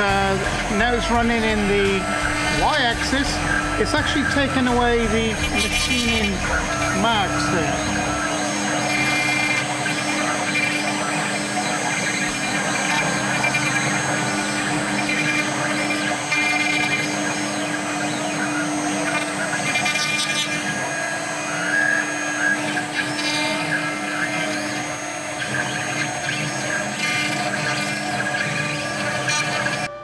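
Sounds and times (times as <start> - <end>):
router spindle cutting wood: 0.0 - 30.0.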